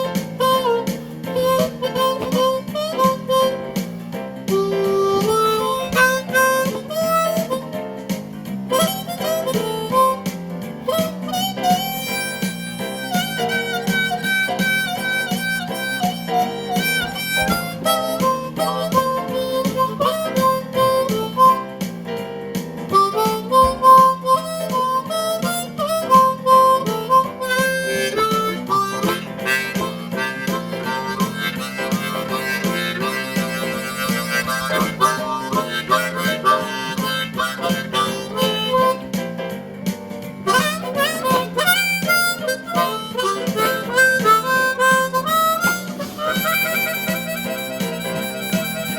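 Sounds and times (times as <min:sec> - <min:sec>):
blues harmonica melody: 0:00.0 - 0:48.9.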